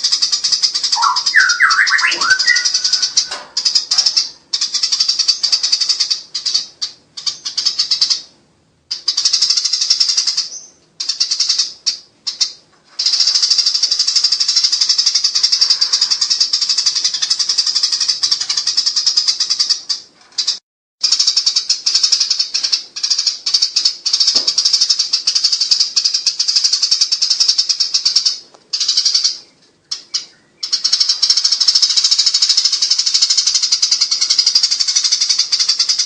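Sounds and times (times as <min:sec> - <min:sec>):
sparrows chattering: 0:00.0 - 0:08.3, 0:08.9 - 0:36.0.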